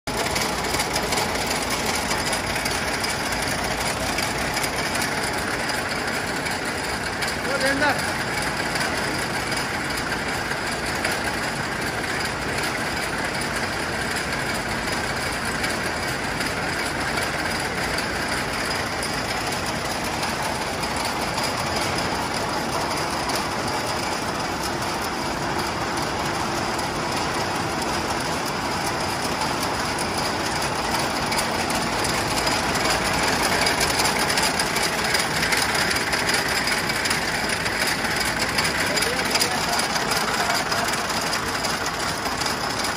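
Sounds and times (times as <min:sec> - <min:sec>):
braiding machine rattling: 0:00.1 - 0:42.9.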